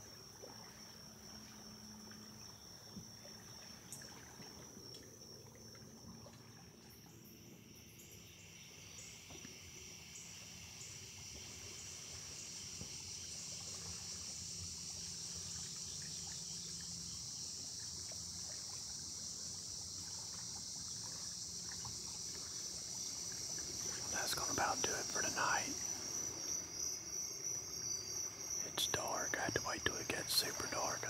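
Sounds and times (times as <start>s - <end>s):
faint water splashes and trickles: 0.0s - 31.0s
insects buzzing: 0.0s - 31.0s.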